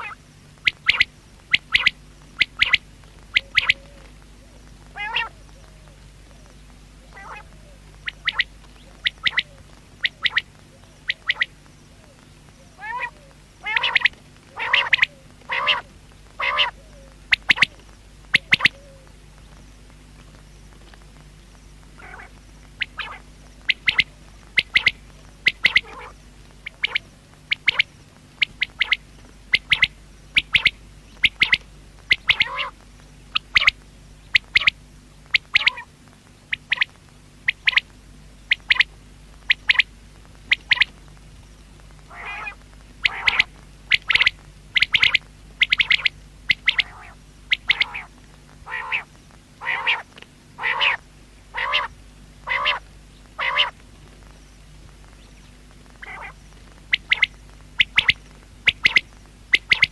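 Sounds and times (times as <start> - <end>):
quail calling: 0.0 - 19.1, 22.0 - 35.9, 36.5 - 37.9, 38.5 - 39.9, 40.5 - 40.9, 42.1 - 53.8, 55.9 - 59.9.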